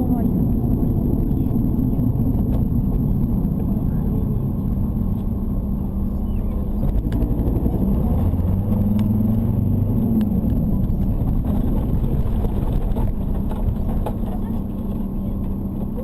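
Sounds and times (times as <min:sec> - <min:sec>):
car engine and road rumble: 0:00.0 - 0:16.0
low hum: 0:00.0 - 0:16.0.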